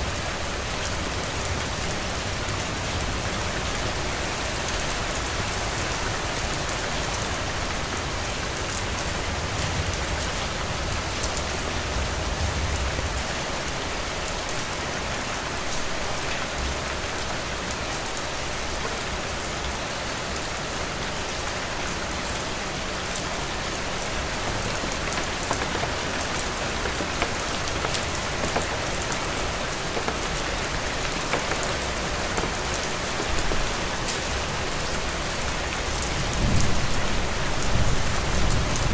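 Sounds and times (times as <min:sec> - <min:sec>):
patter of raindrops: 0:00.0 - 0:38.9.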